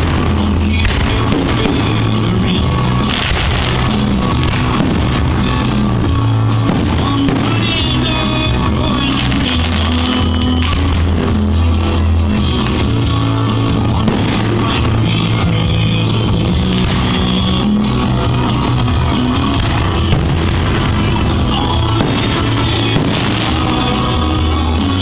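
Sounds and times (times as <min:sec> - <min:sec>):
loud rock music: 0:00.0 - 0:25.0.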